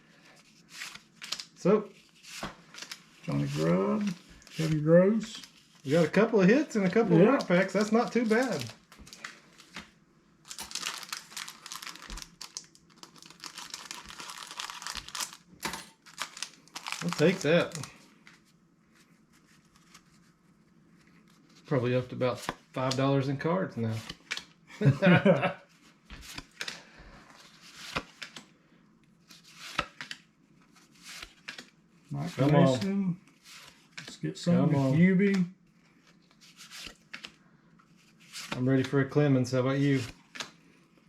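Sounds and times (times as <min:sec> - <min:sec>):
cards and wrapping rustling: 0:00.1 - 0:28.5, 0:29.2 - 0:41.0.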